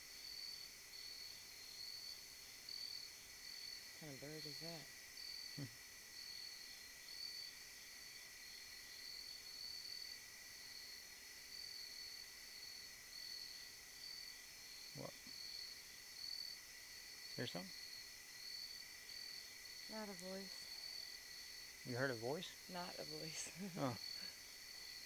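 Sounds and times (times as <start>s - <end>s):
crickets trilling: 0.0s - 25.0s
insects droning: 0.0s - 25.0s.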